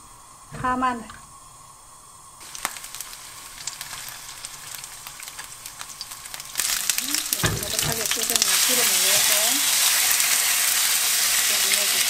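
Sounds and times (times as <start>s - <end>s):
garlic sizzling in hot oil: 0.2s - 12.0s.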